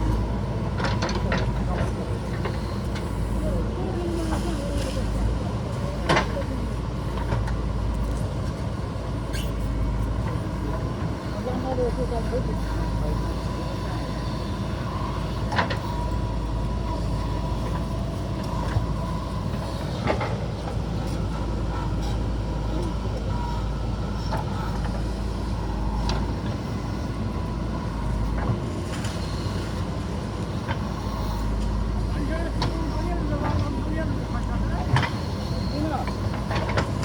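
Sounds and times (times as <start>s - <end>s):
backhoe diesel engine running: 0.0s - 37.0s.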